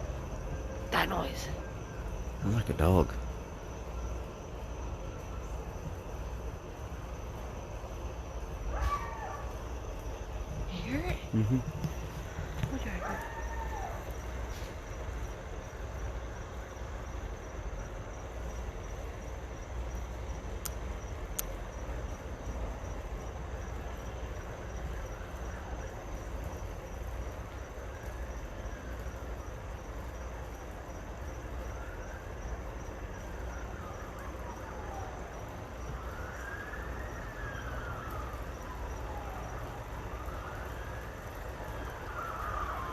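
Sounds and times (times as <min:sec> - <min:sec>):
distant siren wailing: 0:00.0 - 0:42.9.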